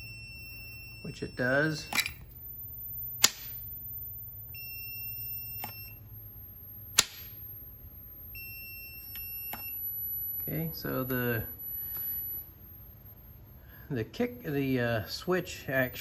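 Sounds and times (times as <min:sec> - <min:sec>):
multimeter continuity beep: 0:00.0 - 0:16.0.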